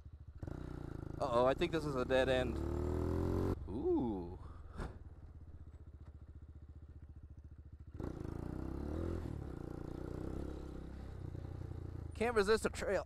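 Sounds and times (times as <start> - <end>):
motorcycle engine idling and pulling away: 0.0 - 13.0.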